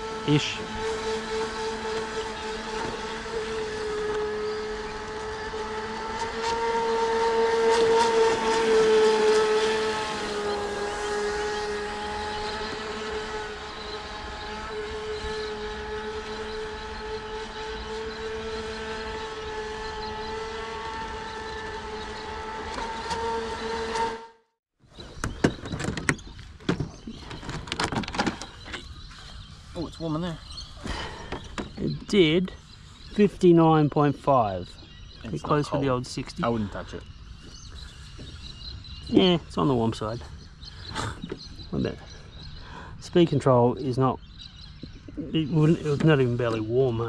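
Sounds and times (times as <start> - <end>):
rc boat motor whine: 0.0 - 47.0.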